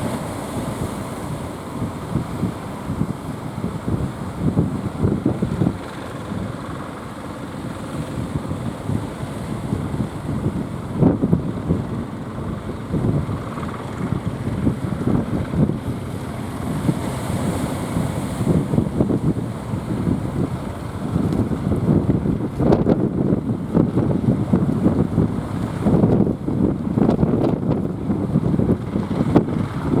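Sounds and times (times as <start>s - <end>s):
surf washing: 0.0s - 30.0s
wind buffeting microphone: 0.0s - 30.0s.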